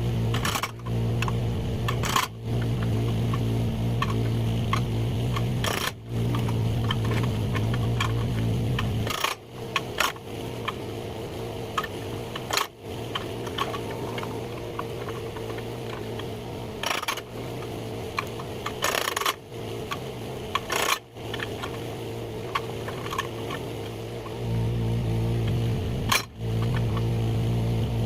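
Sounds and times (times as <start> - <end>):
excavator engine humming: 0.0 - 28.0.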